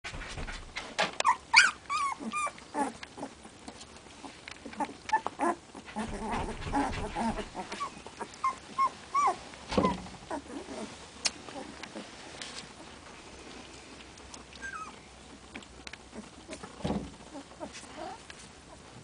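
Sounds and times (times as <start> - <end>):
puppies whimpering and squealing: 1.2 - 13.0, 14.4 - 19.0.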